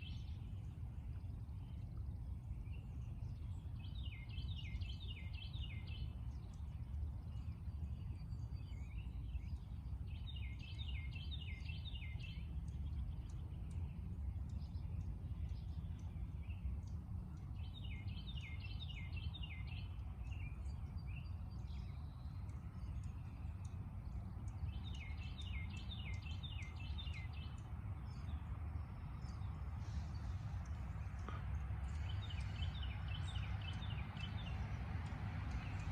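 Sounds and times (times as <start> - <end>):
steady low rumble: 0.0 - 35.9
songbird singing falling notes: 2.7 - 35.9.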